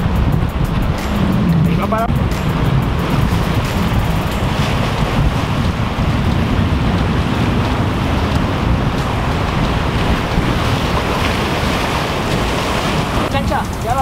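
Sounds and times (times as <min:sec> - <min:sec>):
surf breaking on rocks: 0:00.0 - 0:14.0
wind on microphone: 0:00.0 - 0:14.0.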